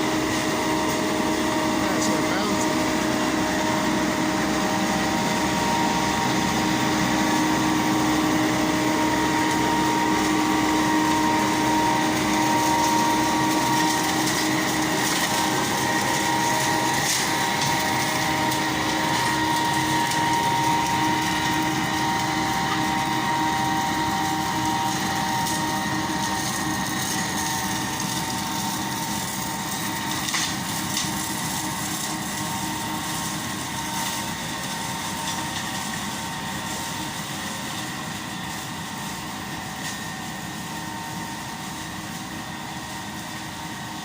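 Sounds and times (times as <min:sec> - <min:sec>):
held whine: 0:00.0 - 0:44.0
tractor engine running: 0:00.0 - 0:44.0.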